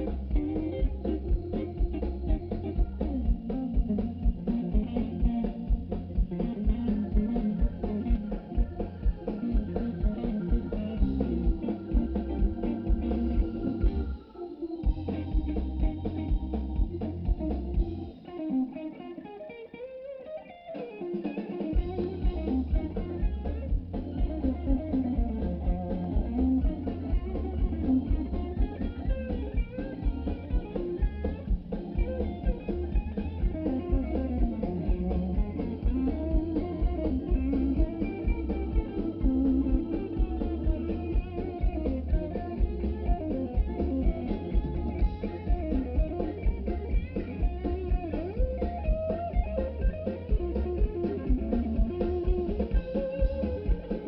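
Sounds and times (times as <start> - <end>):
bass and drums: 0.0 - 14.2, 14.8 - 18.3, 21.1 - 54.0
electric guitar: 0.0 - 54.0.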